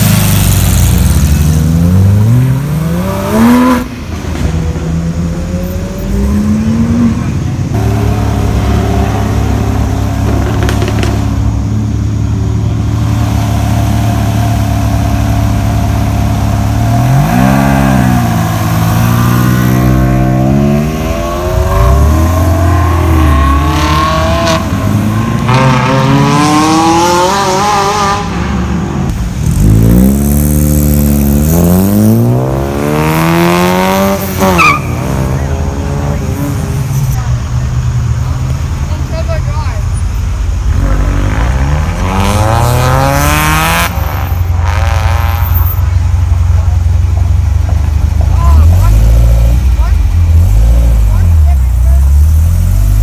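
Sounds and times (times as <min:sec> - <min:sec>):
car engines idling: 0:00.0 - 0:42.1, 0:43.0 - 0:53.0
car engines revving: 0:00.0 - 0:53.0.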